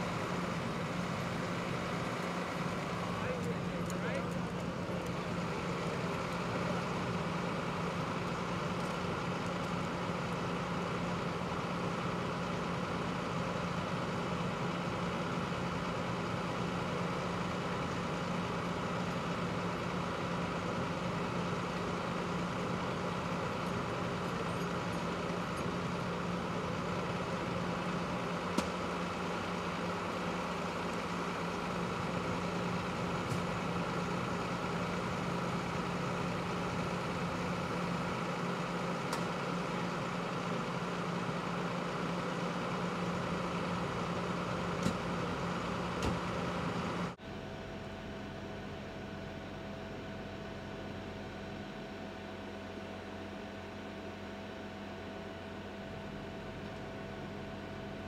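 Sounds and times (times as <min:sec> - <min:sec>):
vehicle engines idling: 0:00.0 - 0:48.9.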